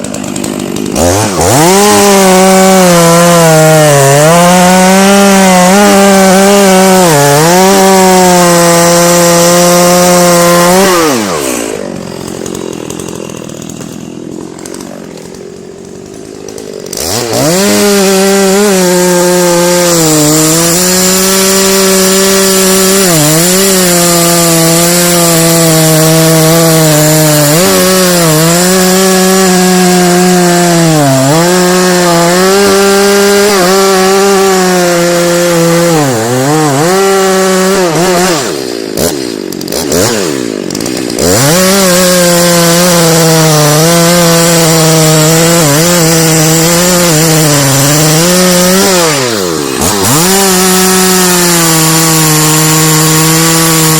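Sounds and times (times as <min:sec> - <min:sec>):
chainsaw cutting into tree: 0:00.0 - 0:53.9
chainsaw revving: 0:00.0 - 0:53.9.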